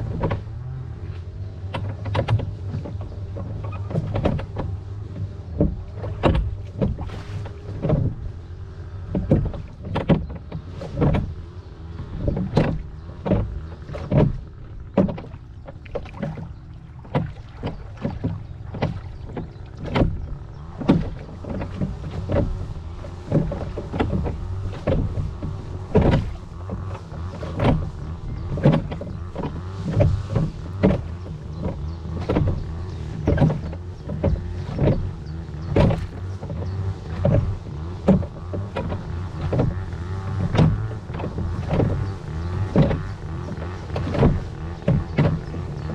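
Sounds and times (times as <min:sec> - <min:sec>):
oars splashing and knocking: 0:00.0 - 0:45.9
wind rumble on microphone: 0:00.0 - 0:45.9.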